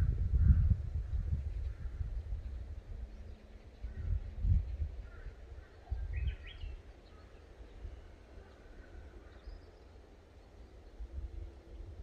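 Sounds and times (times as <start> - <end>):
wind rumbling on microphone: 0.0 - 9.6, 10.5 - 12.0
birds chirping: 1.2 - 11.9.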